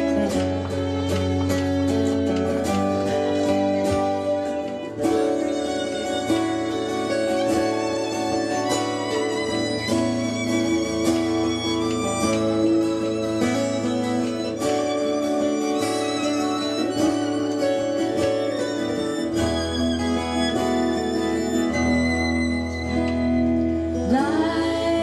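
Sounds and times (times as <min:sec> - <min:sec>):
fiddle melody: 0:00.0 - 0:25.0
strummed guitars: 0:00.0 - 0:25.0.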